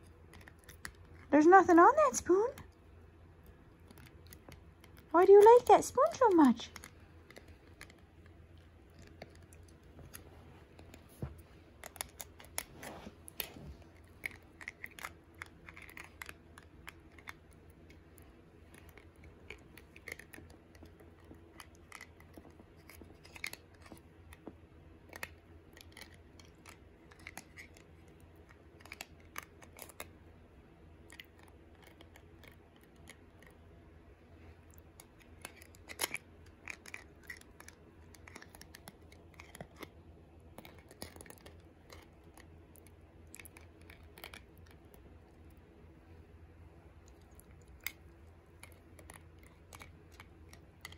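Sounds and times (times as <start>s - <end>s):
puppy chewing plastic spoon: 0.0s - 33.8s, 34.6s - 45.8s, 46.8s - 50.9s.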